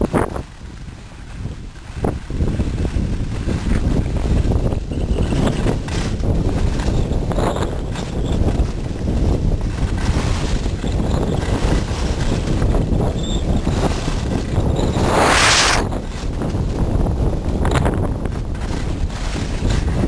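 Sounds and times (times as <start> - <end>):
skis rumbling over snow: 0.0 - 20.0
wind buffeting microphone: 0.0 - 20.0
skis scraping snow: 0.3 - 20.0.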